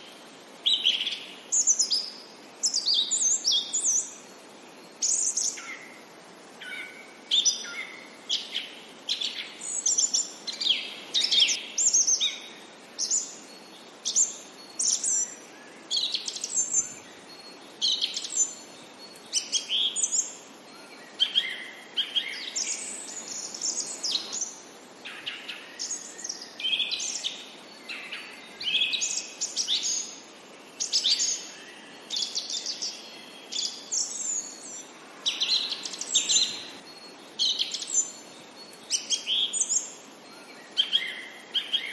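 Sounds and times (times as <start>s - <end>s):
faint steady hiss: 0.0s - 41.9s
songbirds chirping and singing: 0.0s - 41.9s.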